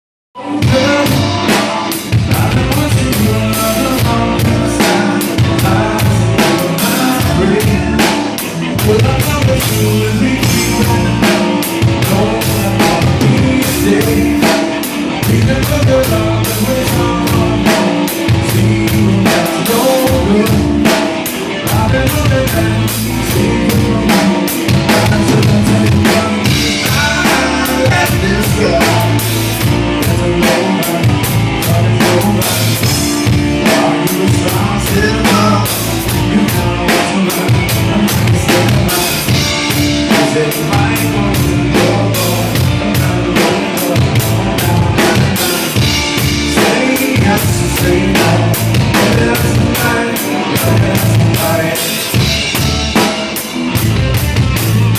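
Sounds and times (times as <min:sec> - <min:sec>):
rock band playing live: 0:00.4 - 0:54.9.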